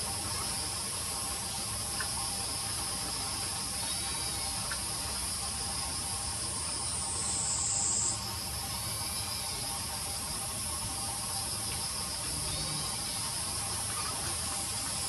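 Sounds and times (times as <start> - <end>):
insect buzzing nearby: 0.0 - 15.0
insect chorus drone: 0.0 - 15.0.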